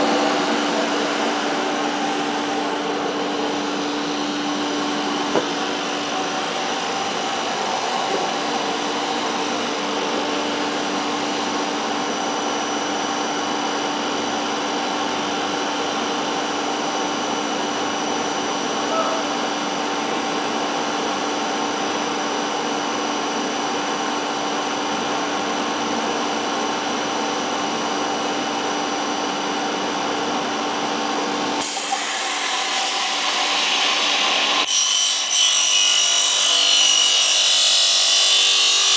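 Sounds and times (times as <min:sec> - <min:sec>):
machine drone and hum: 0:00.0 - 0:38.9.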